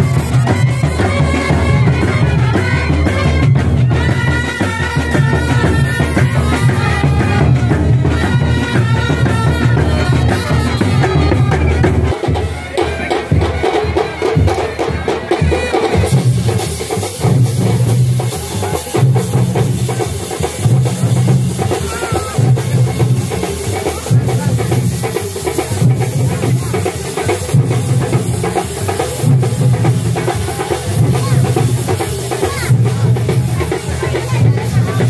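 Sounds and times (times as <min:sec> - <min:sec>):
brass band melody: 0:00.0 - 0:35.0
heavy drum beat: 0:00.0 - 0:35.0.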